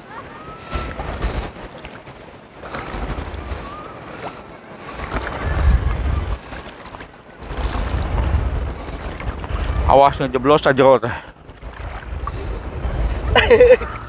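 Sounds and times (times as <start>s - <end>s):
surf washing over rocky shore: 0.0s - 14.0s.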